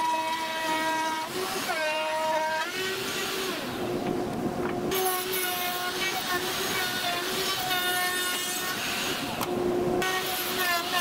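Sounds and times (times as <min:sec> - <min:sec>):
router bit cutting wood hiss: 0:00.0 - 0:03.8, 0:04.9 - 0:11.0
router whining: 0:00.0 - 0:11.0.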